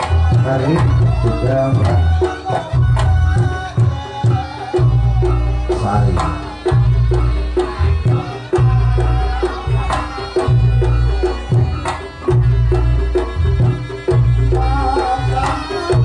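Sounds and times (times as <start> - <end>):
hand drums beating: 0.0 - 16.0
ringing pitched percussion: 0.0 - 16.0.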